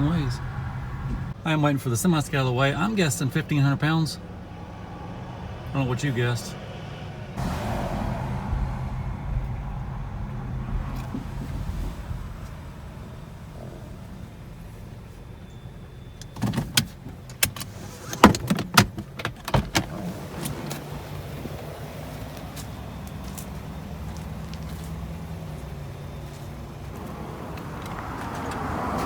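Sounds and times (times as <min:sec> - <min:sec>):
car engine idling: 0:00.0 - 0:29.0
road noise: 0:00.0 - 0:29.0.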